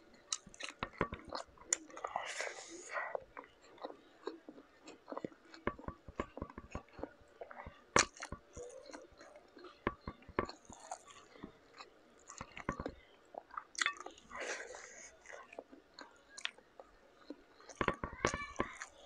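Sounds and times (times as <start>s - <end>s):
chewing shrimp crunches: 0.1s - 17.9s.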